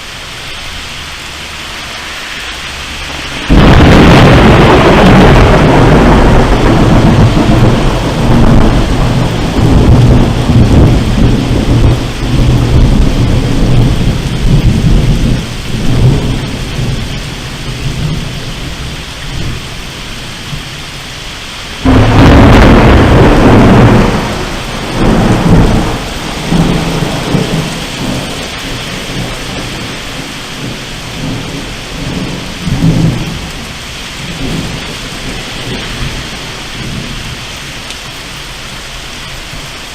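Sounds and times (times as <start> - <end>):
steady rain: 0.0 - 39.9
rolling thunder: 2.4 - 21.0, 21.7 - 38.6
loud thunder clap: 3.1 - 19.6, 21.8 - 37.4.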